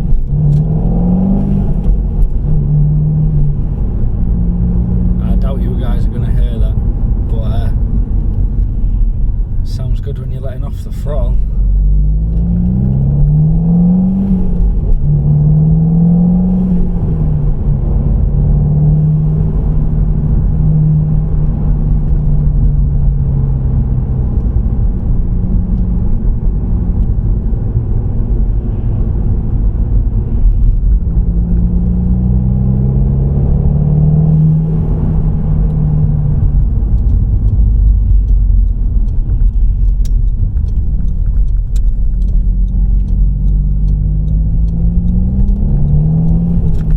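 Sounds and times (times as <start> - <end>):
car engine revving: 0.0 - 46.9
road rumble: 0.0 - 46.9.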